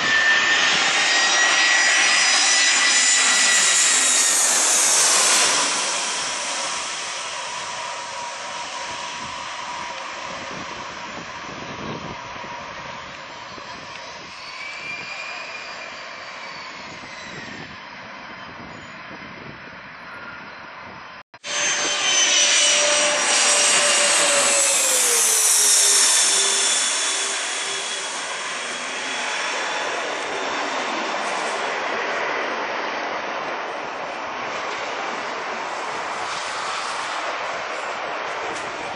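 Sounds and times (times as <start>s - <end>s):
jet passing low overhead: 0.0s - 15.1s, 21.4s - 38.9s
jet engine whine: 0.0s - 38.9s.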